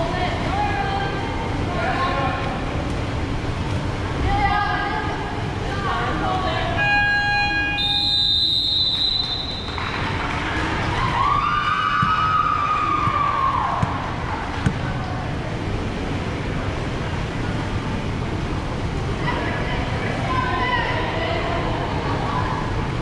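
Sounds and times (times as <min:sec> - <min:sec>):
crowd noise: 0:00.0 - 0:23.0.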